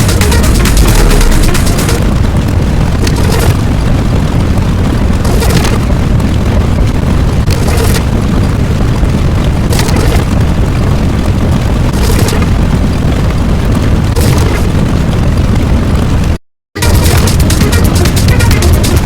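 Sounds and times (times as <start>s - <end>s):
crackling hiss: 0.0s - 16.3s
loud low rumbling: 0.0s - 19.0s.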